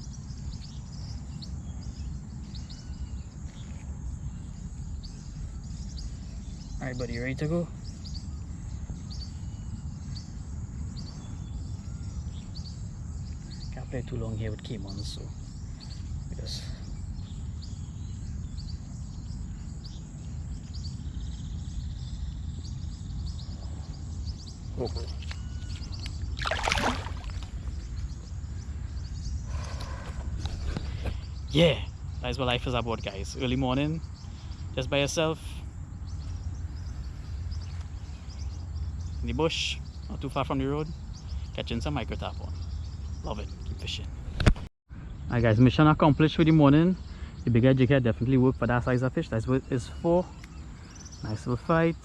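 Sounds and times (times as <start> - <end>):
birds chirping: 0.0 - 52.0
low rumble of outdoor noise: 0.0 - 52.0.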